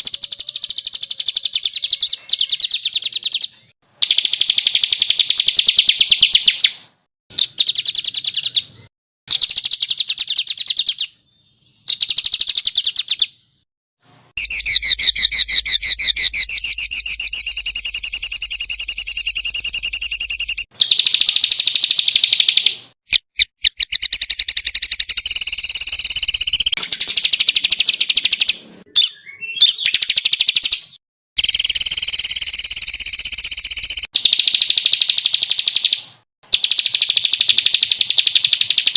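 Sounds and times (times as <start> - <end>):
songbird singing rapid bursts: 0.0 - 13.6, 14.3 - 38.9.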